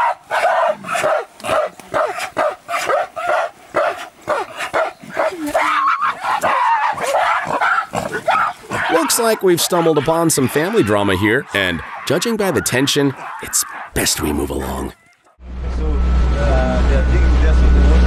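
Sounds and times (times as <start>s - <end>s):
gorillas calling: 0.0s - 15.4s.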